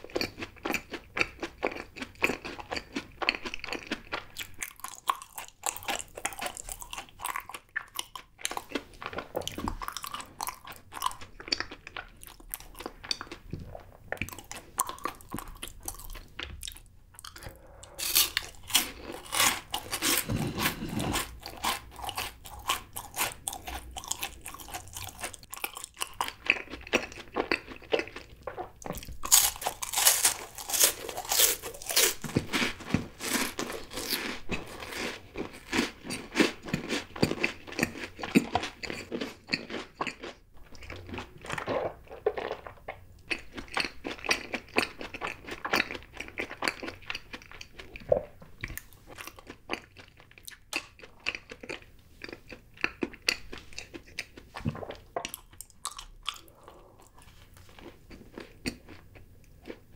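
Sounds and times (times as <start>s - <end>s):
crunchy chewing: 0.0s - 59.8s.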